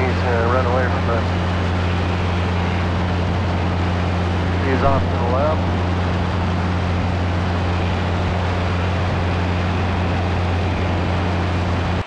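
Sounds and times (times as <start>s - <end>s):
airplane engine drone: 0.0s - 12.0s
wind rush: 0.0s - 12.0s.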